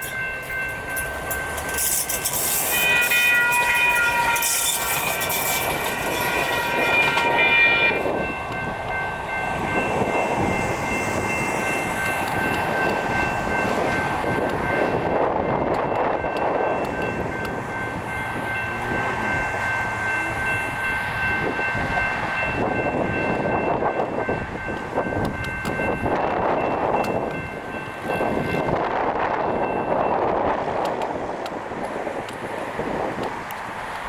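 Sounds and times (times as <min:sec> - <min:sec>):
railroad crossing bell ringing: 0:00.0 - 0:32.2
light rail train running: 0:00.0 - 0:34.0.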